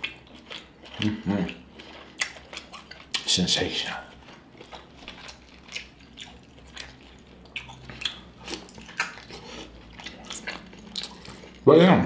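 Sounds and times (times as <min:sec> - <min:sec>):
wet chewing and lip-smacking: 0:00.0 - 0:11.6.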